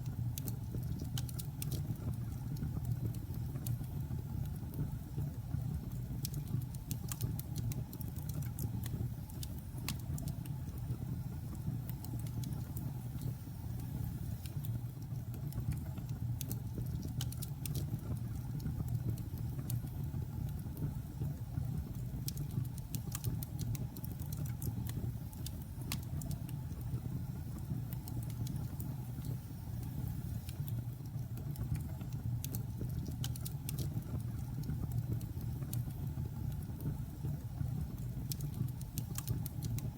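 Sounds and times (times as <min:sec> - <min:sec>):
wood crackling and popping: 0:00.1 - 0:04.9, 0:05.8 - 0:10.8, 0:14.4 - 0:26.9, 0:27.6 - 0:39.9.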